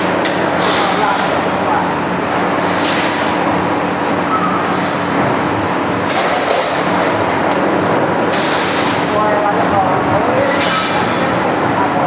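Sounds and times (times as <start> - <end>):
punching machine mechanical din: 0.0 - 12.0.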